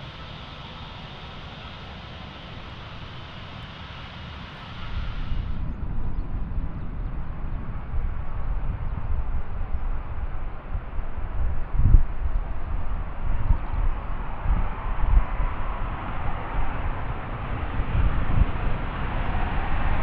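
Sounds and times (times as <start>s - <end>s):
distant jet engine noise: 0.0s - 20.0s
wind buffeting microphone: 0.0s - 20.0s.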